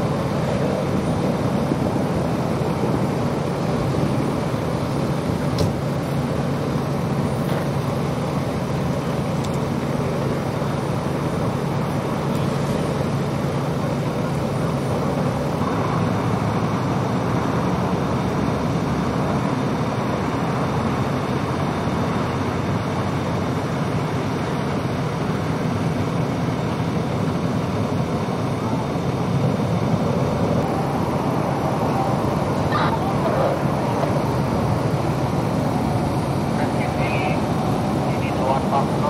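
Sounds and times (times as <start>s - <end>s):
freeway traffic rumble: 0.0s - 39.0s
semi-truck passing: 0.0s - 39.0s.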